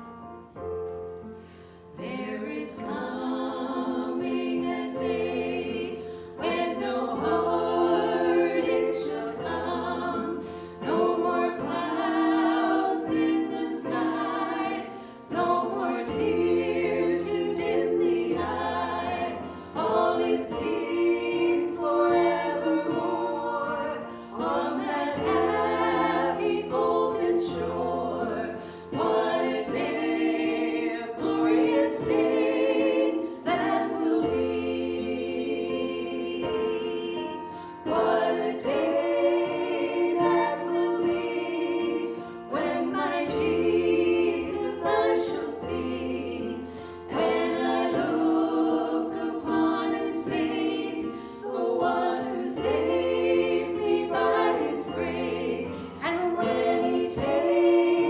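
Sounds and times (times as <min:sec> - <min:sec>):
group singing worship song: 0:01.9 - 0:58.0.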